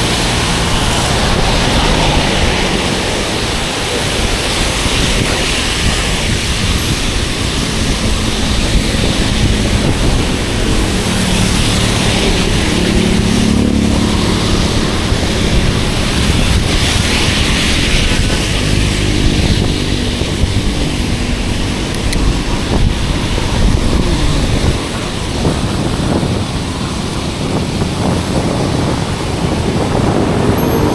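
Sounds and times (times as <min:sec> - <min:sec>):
wind rushing over microphone: 0:00.0 - 0:30.9.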